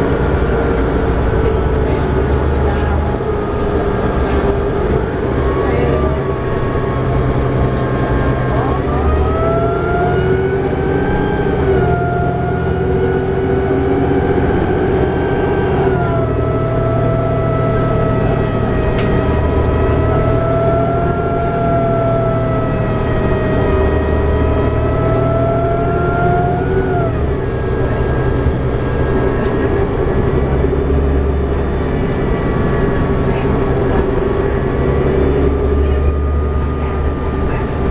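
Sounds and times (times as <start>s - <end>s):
diesel bus engine: 0.0s - 37.9s
road rumble: 0.0s - 37.9s
transmission whine: 0.0s - 37.9s.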